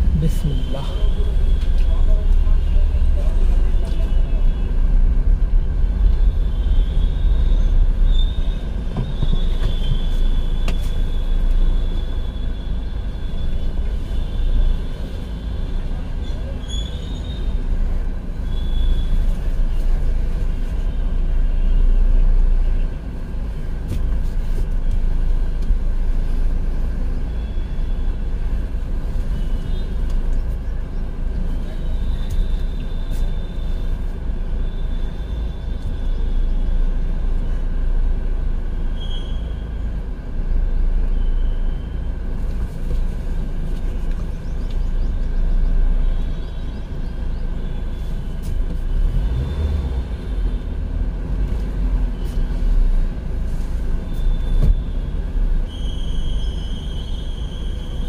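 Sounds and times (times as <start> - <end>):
road rumble: 0.0 - 58.0.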